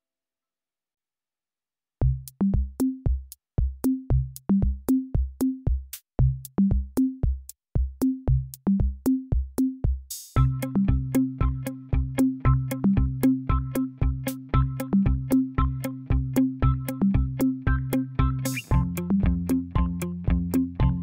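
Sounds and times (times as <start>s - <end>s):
drum machine beat: 2.0s - 21.0s.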